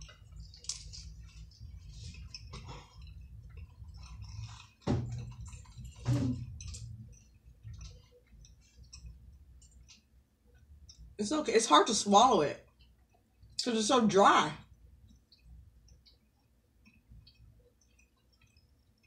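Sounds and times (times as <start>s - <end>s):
chewing: 0.0s - 11.2s, 12.6s - 13.6s, 14.6s - 19.0s.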